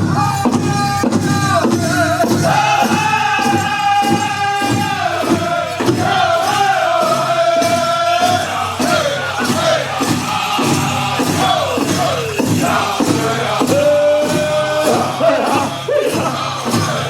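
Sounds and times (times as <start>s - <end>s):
steady drumbeat: 0.0s - 17.0s
high-pitched voices singing in unison: 1.9s - 17.0s.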